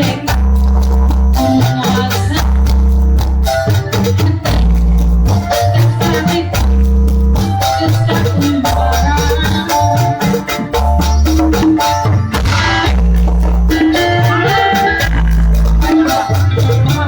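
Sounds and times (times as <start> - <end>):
drum and rattle beat: 0.0 - 17.0
melody over heavy bass: 0.0 - 17.0.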